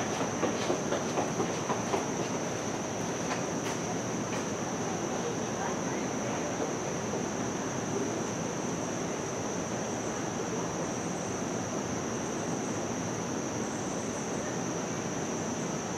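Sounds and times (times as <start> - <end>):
even outdoor hiss: 0.0 - 15.9.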